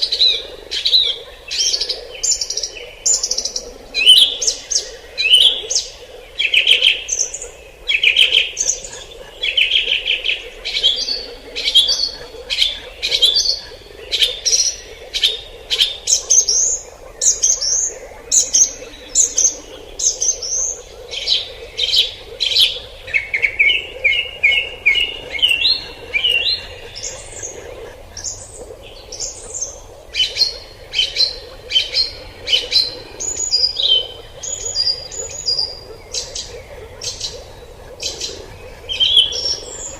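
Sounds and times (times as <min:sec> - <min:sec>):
forest birds chirping and singing: 0:00.0 - 0:39.9.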